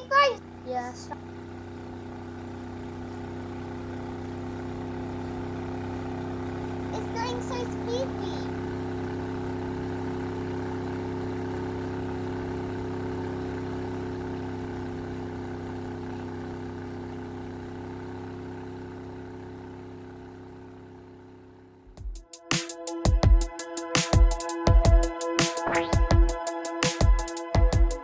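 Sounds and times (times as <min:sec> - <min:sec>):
speedboat engine running: 0:00.0 - 0:19.8, 0:22.8 - 0:28.0.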